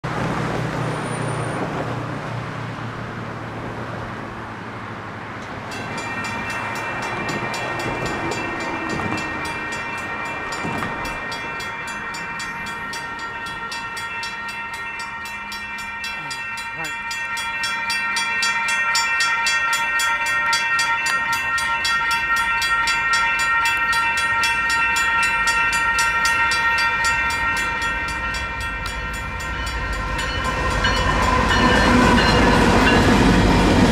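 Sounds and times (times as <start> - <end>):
road traffic: 0.0 - 33.9
railroad crossing warning bells: 0.8 - 33.9.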